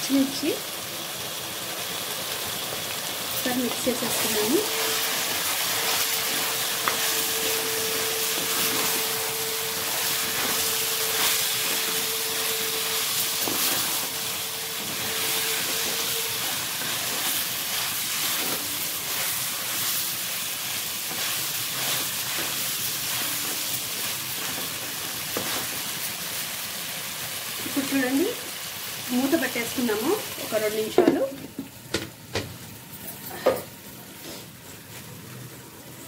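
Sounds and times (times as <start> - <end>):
chicken frying sizzle: 0.0 - 32.8.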